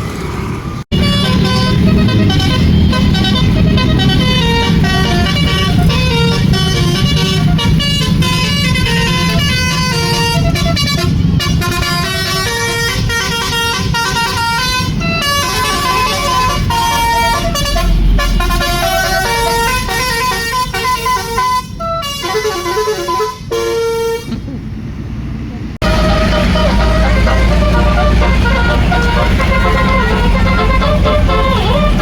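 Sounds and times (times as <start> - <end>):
bus engine running: 0.0 - 32.0
multi-tone bus horn melody: 0.9 - 24.4, 25.8 - 32.0.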